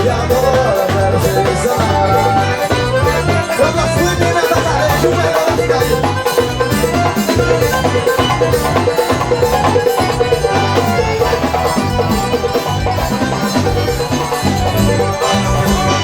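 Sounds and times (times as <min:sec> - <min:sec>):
accordion: 0:00.0 - 0:16.0
drums and bass beat: 0:00.0 - 0:16.0.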